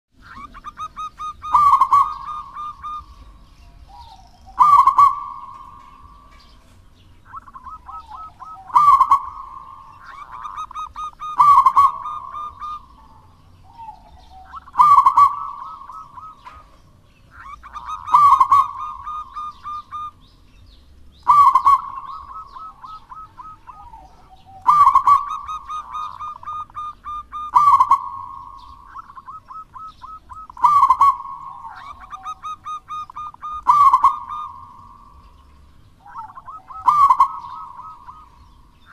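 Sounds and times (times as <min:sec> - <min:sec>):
dove cooing: 0:00.2 - 0:20.3, 0:21.2 - 0:35.4, 0:36.0 - 0:38.9.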